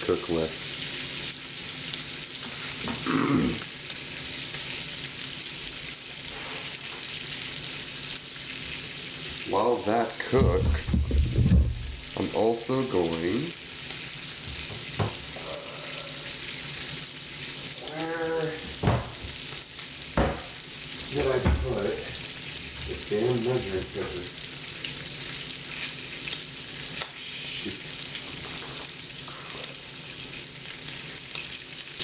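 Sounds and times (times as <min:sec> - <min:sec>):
bacon sizzling in a pan: 0:00.0 - 0:32.0.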